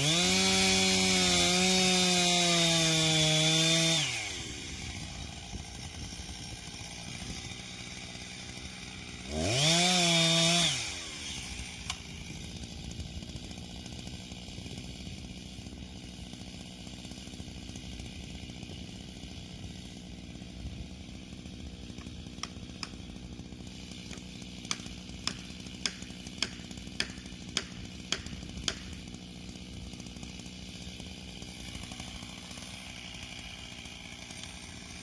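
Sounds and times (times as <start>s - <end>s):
chainsaw engine idling: 0.0s - 35.0s.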